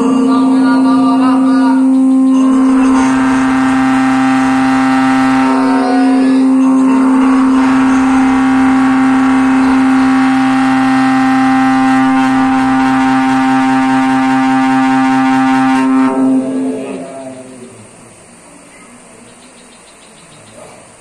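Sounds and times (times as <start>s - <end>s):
man chanting a long note: 0.0s - 18.1s.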